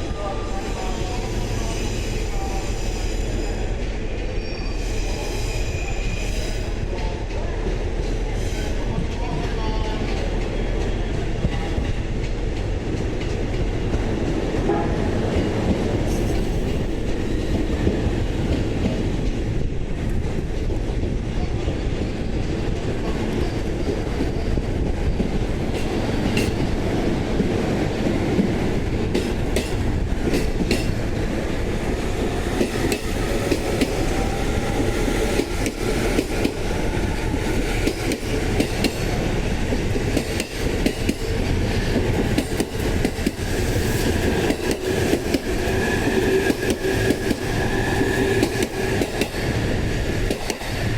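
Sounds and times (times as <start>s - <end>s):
electric train rumbling past: 0.0s - 50.9s.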